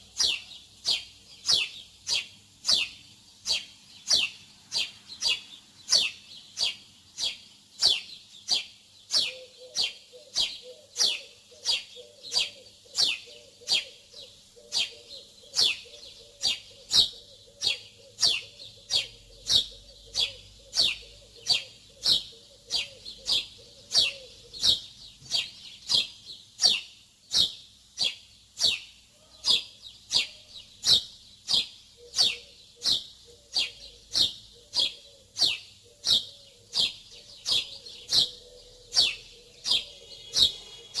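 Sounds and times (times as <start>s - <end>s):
small bird chirping: 0.0s - 41.0s.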